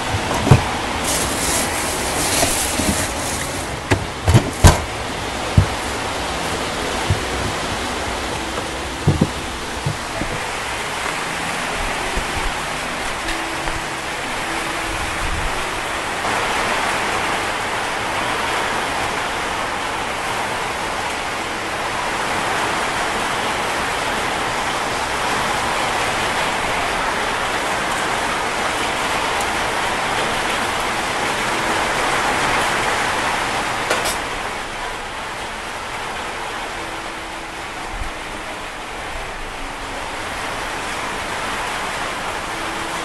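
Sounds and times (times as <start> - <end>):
heavy rain on metal roof: 0.0 - 43.0.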